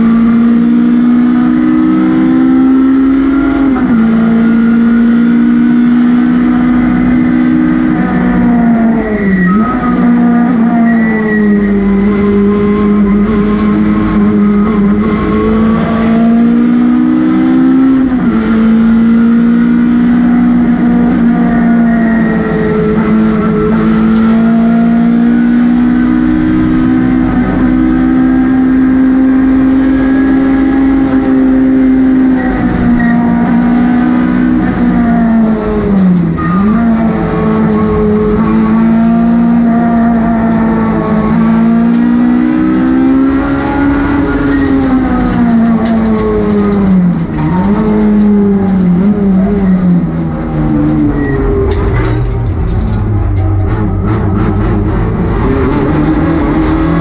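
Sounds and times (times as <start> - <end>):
rally car engine revving hard: 0.0 - 57.0
road noise: 0.0 - 57.0.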